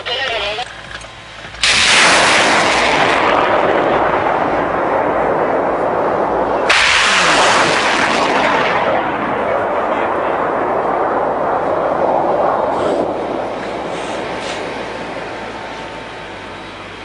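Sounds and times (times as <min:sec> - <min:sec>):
rocket launch roar: 0:01.6 - 0:16.4.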